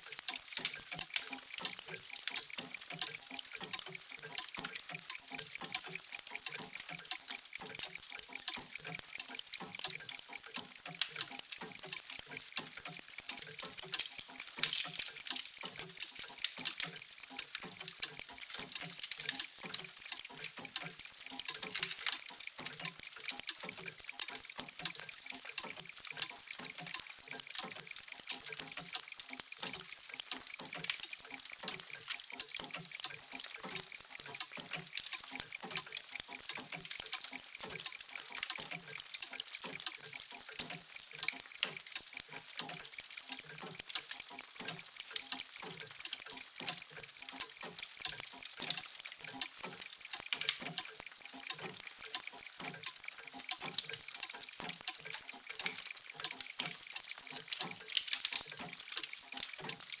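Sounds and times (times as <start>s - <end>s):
many clocks ticking: 0.0s - 60.0s.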